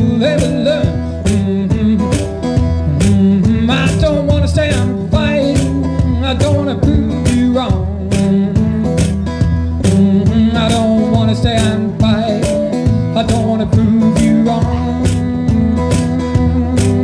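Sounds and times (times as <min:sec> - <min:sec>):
blues on resonator guitar: 0:00.0 - 0:17.0.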